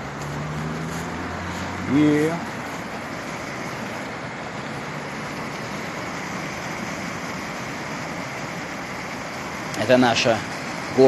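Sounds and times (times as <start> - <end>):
even outdoor hiss: 0.0 - 11.0.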